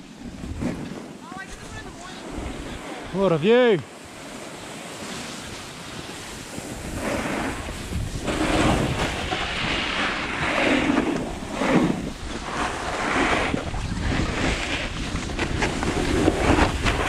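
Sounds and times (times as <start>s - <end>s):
wind on microphone: 0.0s - 3.3s, 4.0s - 17.0s
edges scraping on packed snow: 0.0s - 17.0s.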